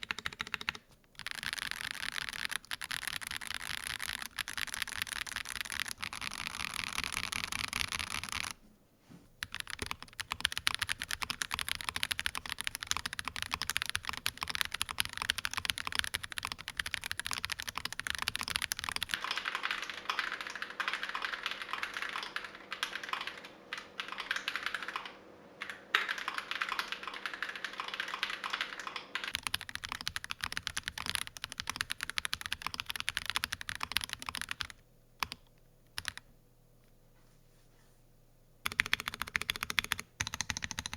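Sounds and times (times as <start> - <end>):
mechanical keyboard typing: 0.0 - 8.6, 9.4 - 36.3, 38.6 - 40.9.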